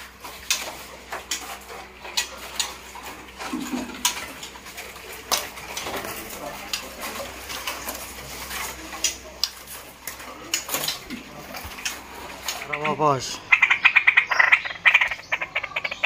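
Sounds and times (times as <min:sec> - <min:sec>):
birds tapping on cage bars: 0:00.0 - 0:16.0.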